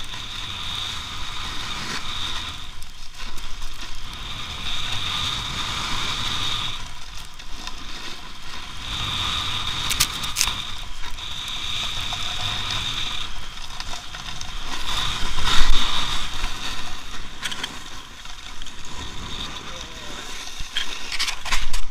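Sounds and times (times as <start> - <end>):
ski edges scraping snow: 0.0 - 21.9.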